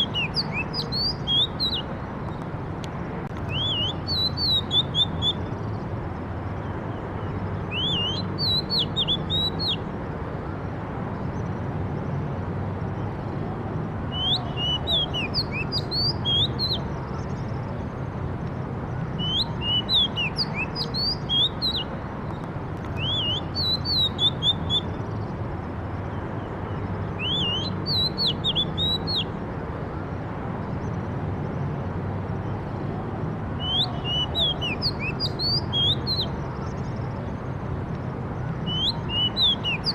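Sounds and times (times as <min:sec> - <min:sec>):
songbird chirping: 0:00.0 - 0:09.9, 0:14.0 - 0:39.9.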